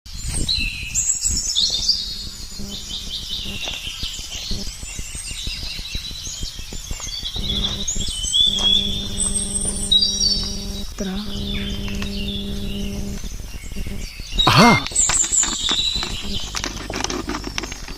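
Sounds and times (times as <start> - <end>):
birds chirping and singing: 0.2 - 17.9
steady low hum: 0.4 - 17.9.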